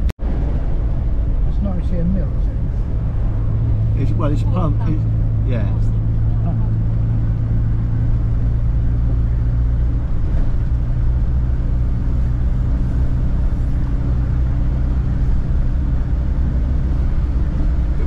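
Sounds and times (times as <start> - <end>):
car engine drone from inside: 0.0 - 18.0.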